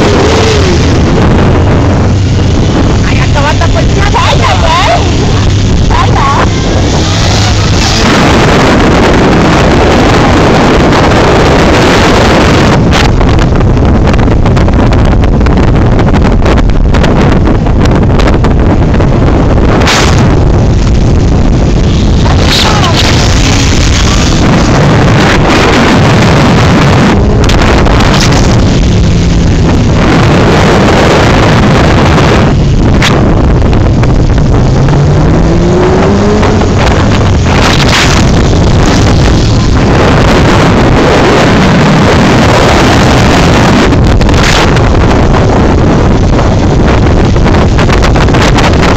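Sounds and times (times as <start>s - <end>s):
motorcycle engine running: 0.0s - 48.9s
wind buffeting on microphone: 0.0s - 48.9s.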